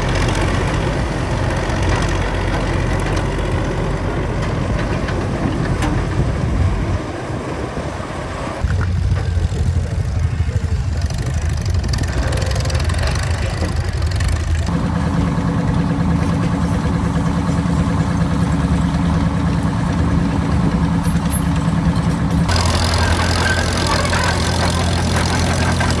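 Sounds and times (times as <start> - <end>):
old machine engines running: 0.0 - 26.0.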